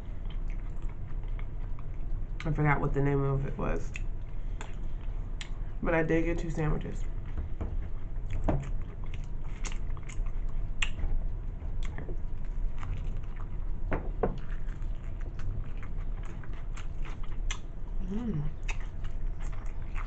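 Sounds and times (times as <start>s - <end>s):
person chewing sandwich: 0.0s - 2.4s, 3.9s - 5.8s, 7.1s - 20.0s.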